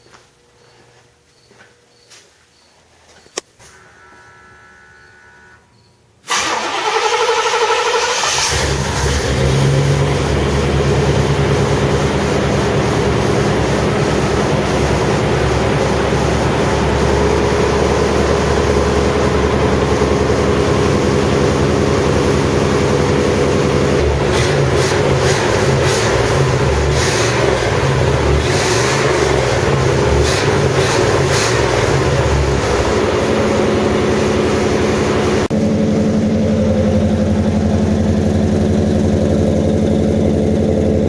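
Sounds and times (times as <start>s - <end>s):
car engine cold-starting: 6.2s - 41.0s
engine running loud: 6.3s - 41.0s.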